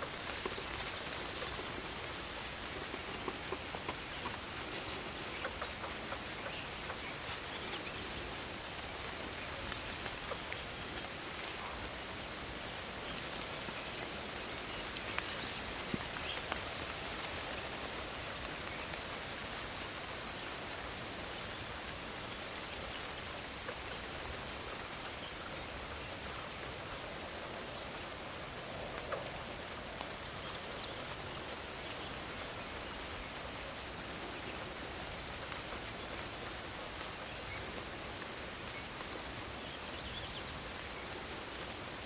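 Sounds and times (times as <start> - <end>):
rain falling in a forest: 0.0 - 42.0.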